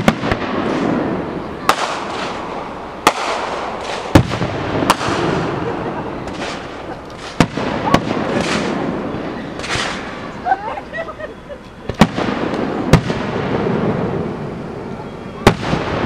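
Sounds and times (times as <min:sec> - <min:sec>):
fireworks bursting with bangs: 0:00.0 - 0:16.0
fireworks crackling and hissing: 0:00.0 - 0:16.0.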